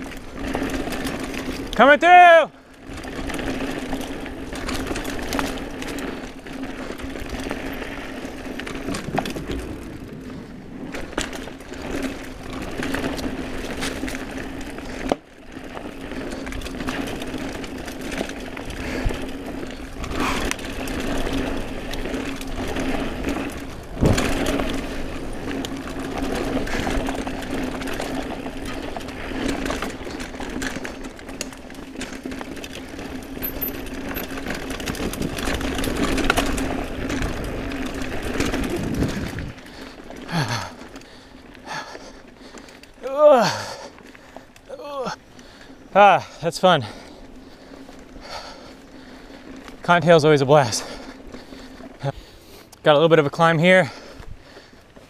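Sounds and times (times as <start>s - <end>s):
bike freewheel buzz: 0.0s - 52.6s
rattle of tyres chain and frame: 0.0s - 55.0s.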